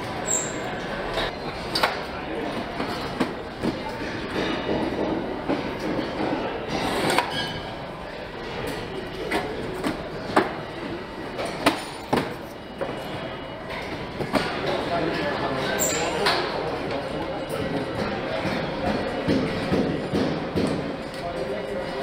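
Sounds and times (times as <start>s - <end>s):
workshop background din: 0.0s - 22.0s.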